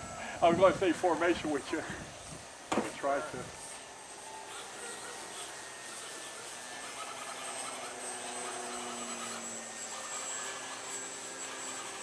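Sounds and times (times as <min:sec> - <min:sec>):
model plane motors humming: 0:00.0 - 0:12.0
wind hiss: 0:00.0 - 0:12.0.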